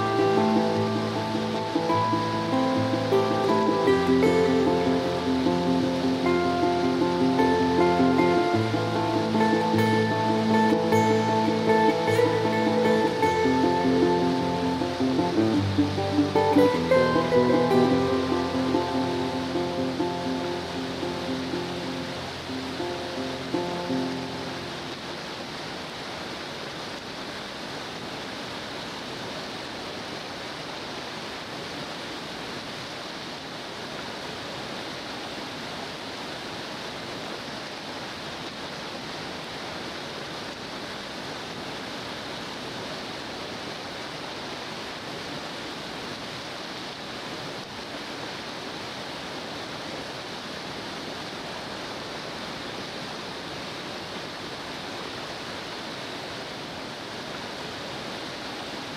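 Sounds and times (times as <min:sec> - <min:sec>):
river rapids rushing: 0:00.0 - 0:58.9.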